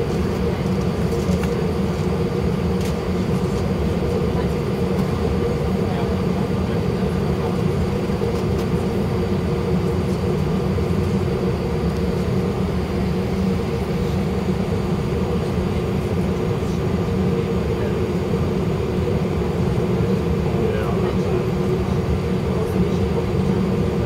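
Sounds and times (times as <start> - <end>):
aircraft engine hum in cabin: 0.0 - 24.0.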